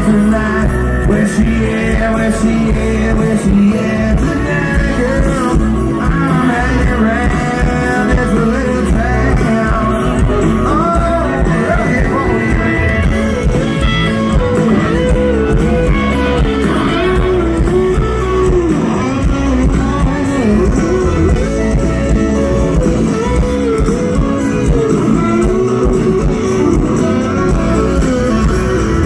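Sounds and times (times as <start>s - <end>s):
country-pop band playing: 0.0s - 29.0s
lead guitar with bending notes: 0.0s - 29.0s.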